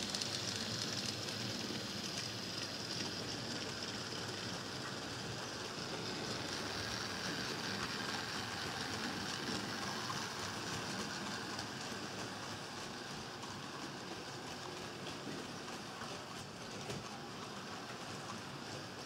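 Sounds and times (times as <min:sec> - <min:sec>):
model train wheels rattling: 0:00.0 - 0:19.0.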